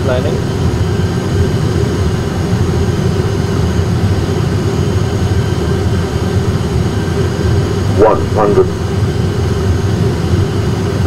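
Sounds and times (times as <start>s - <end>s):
aircraft engines humming: 0.0s - 11.0s.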